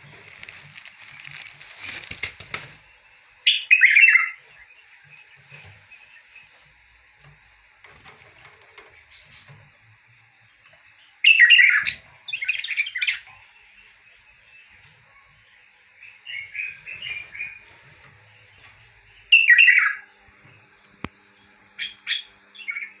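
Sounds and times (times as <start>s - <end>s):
caged songbirds singing: 0.0s - 23.0s.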